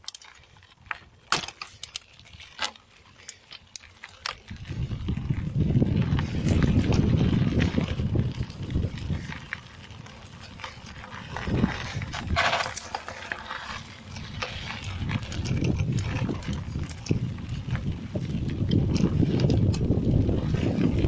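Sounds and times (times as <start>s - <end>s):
bike and stones rattling clicks: 0.0s - 21.0s
wind and tyre noise: 0.0s - 21.0s.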